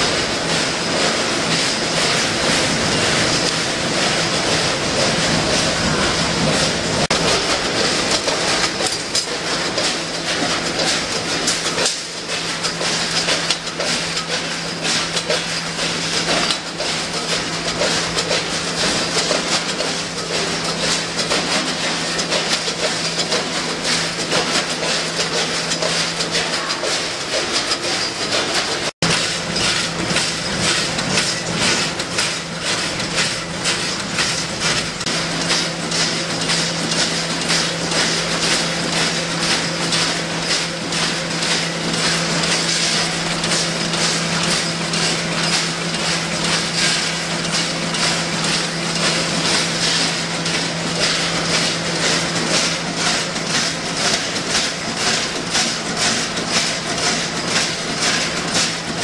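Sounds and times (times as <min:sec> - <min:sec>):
mechanical clatter of machine: 0:00.0 - 0:59.0.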